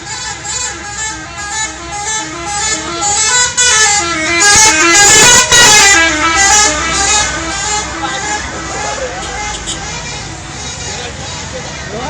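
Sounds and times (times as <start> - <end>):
bus musical horn playing a tune: 0.0 - 11.5.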